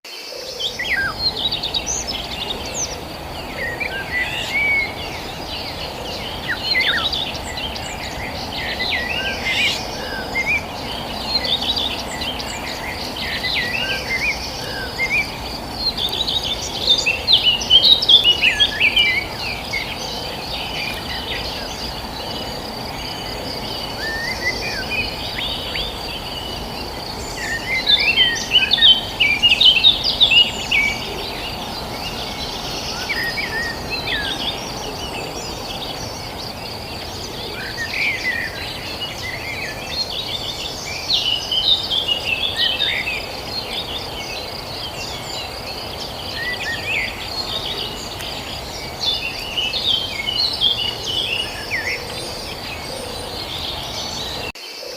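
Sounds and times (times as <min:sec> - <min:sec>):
low outdoor hiss: 0:00.1 - 0:54.9
small birds chirping: 0:00.4 - 0:54.9.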